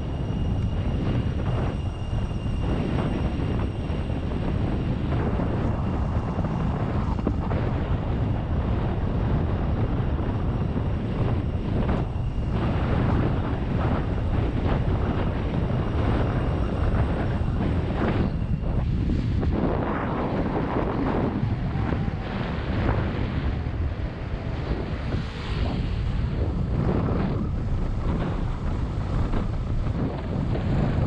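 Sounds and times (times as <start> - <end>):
road and engine noise: 0.0 - 31.0
wind rushing over microphone: 0.0 - 31.0.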